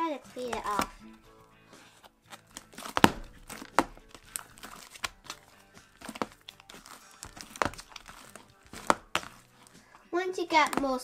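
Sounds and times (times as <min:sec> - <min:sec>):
slime squishing with sticky crackles: 0:00.0 - 0:11.0.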